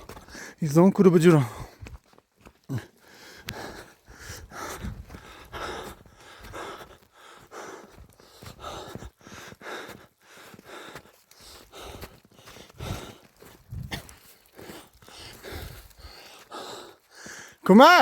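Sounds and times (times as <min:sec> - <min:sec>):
person breathing hard: 0:00.0 - 0:00.6, 0:02.6 - 0:17.6.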